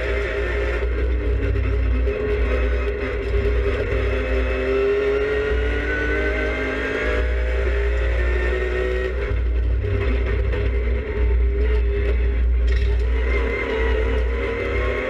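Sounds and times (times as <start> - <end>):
race car engine from inside cabin: 0.0 - 15.0.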